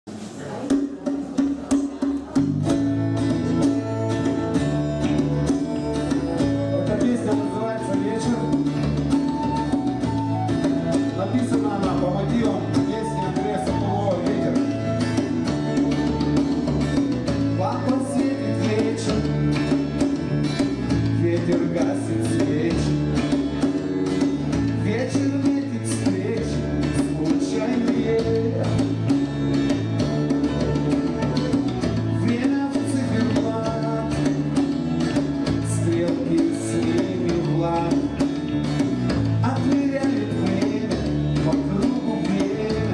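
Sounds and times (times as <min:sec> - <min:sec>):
rock band playing: 0:00.8 - 0:42.9.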